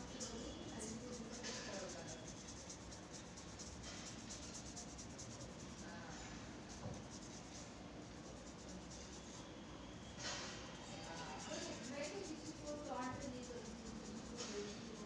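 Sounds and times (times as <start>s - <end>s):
pencil scratching on paper: 0.0s - 9.5s, 10.8s - 15.0s.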